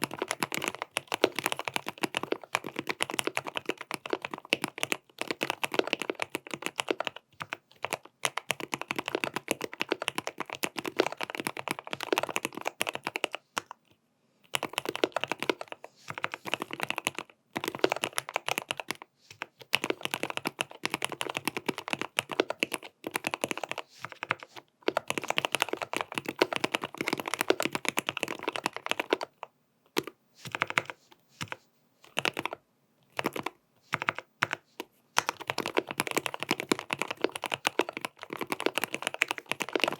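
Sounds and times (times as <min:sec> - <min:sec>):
mechanical keyboard typing: 0:00.0 - 0:13.8, 0:14.5 - 0:39.9.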